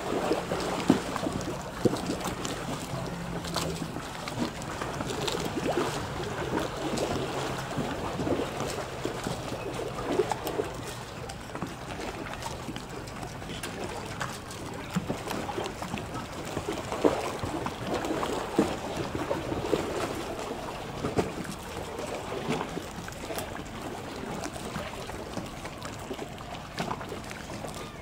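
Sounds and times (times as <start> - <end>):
lake water lapping and splashing: 0.0 - 28.0.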